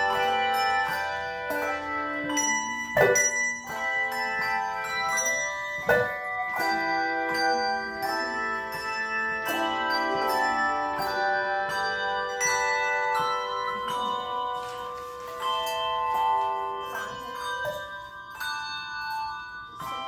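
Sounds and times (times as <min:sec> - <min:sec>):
handbell choir playing: 0:00.0 - 0:20.0
loud bell strikes: 0:00.0 - 0:20.0.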